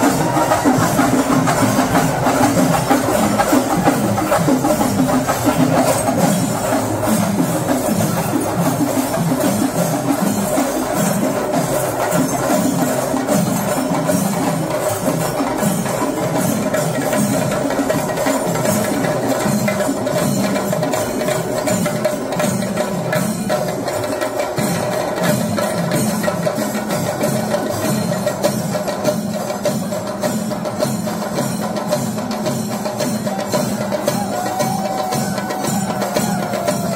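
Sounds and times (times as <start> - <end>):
continuous drumming: 0.0 - 36.9.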